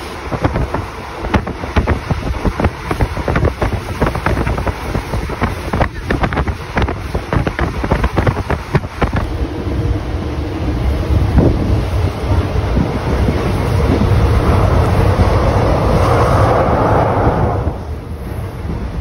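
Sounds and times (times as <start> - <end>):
train knocking and rattling: 0.0 - 16.9
train rumbling: 0.0 - 19.0
wind buffeting microphone: 0.0 - 19.0.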